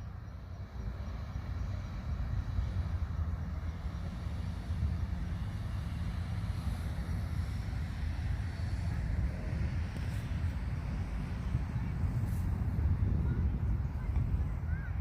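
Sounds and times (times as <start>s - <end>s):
steady low rumble: 0.0s - 15.0s
faint hiss: 0.1s - 15.0s.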